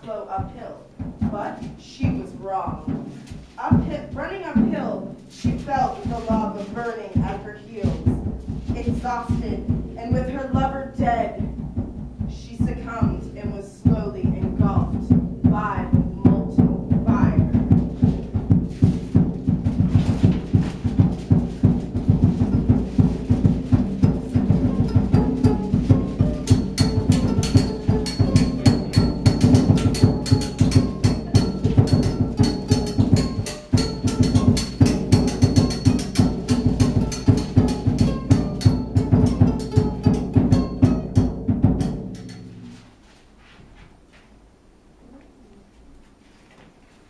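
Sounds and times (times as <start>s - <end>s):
low drums beating: 0.0s - 43.0s.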